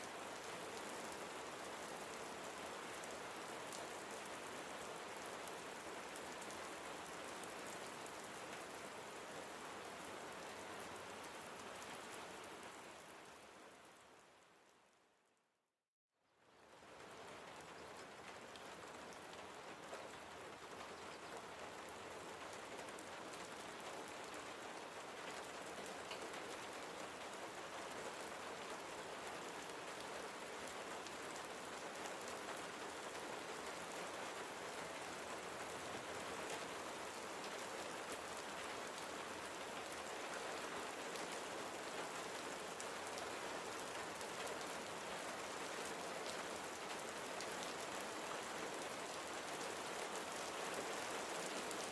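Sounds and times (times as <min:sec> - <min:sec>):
rain pattering on a surface: 0:00.0 - 0:14.9, 0:16.3 - 0:51.9.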